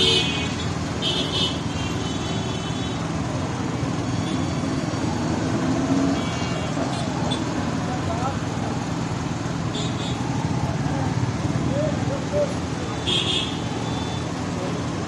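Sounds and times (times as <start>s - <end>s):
hum of engines and tyres: 0.0s - 15.0s.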